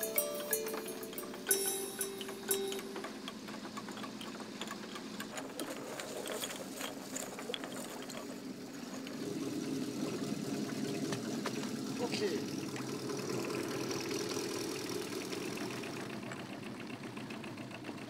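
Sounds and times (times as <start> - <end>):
boat engine running slowly: 0.0 - 18.0.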